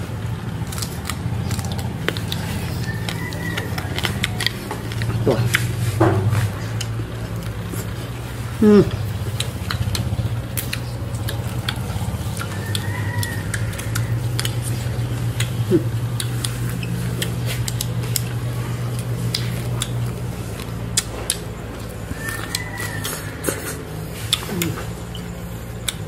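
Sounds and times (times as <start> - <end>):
person chewing with crunching: 0.0 - 26.0
steady low hum: 0.0 - 26.0.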